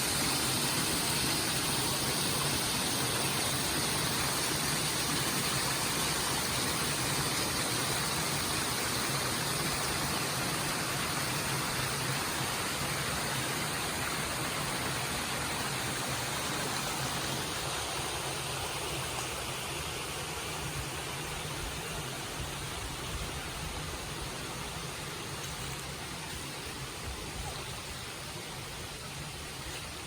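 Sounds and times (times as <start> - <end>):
stream flowing: 0.0 - 30.0.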